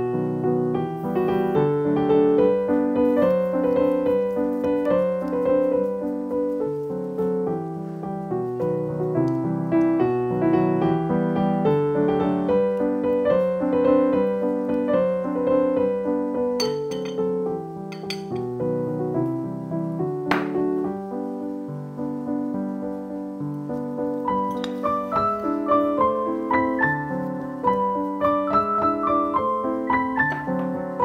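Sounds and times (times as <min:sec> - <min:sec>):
gentle solo piano music: 0:00.0 - 0:31.0.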